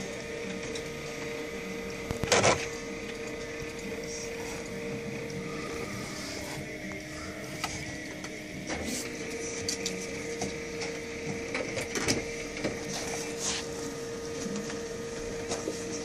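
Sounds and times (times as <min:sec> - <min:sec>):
document scanner humming: 0:00.0 - 0:16.0.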